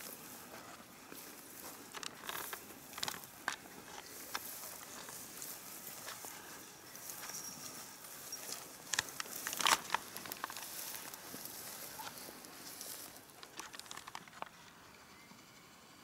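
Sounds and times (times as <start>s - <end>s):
footsteps through tall grass: 0.0s - 14.6s
twigs crackling: 0.0s - 14.7s.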